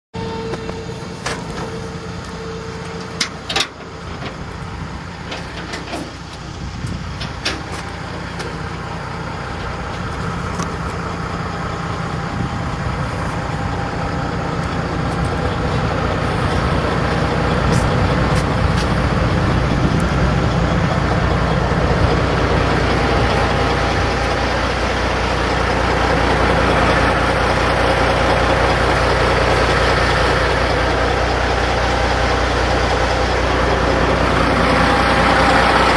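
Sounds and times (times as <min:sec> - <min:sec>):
truck diesel engine idling: 0:00.2 - 0:35.9.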